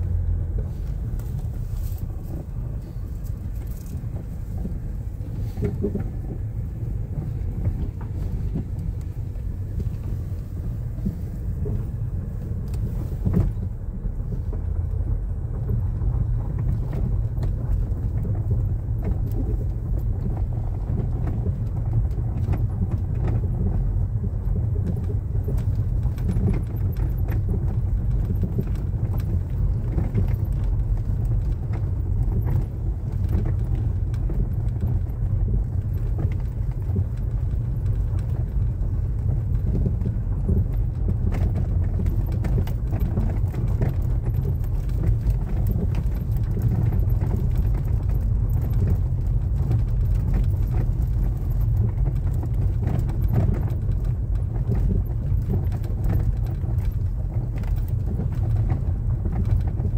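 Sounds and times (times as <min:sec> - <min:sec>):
tyres rumbling on gravel road: 0:00.0 - 0:59.9.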